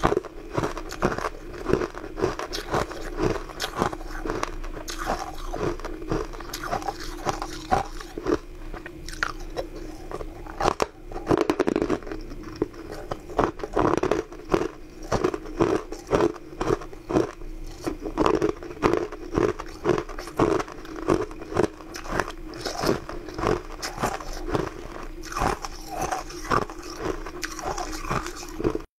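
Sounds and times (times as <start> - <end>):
crunching hard sweets: 0.0 - 28.9
steady low hum: 0.0 - 28.9.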